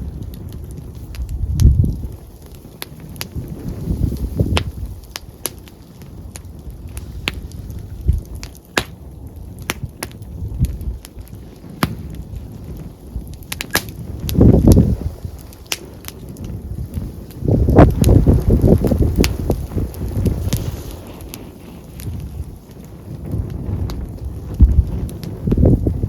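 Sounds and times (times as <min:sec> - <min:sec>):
campfire crackling: 0:00.0 - 0:26.0
sharp fire pops: 0:00.0 - 0:26.0
wind rumble on microphone: 0:00.0 - 0:26.0.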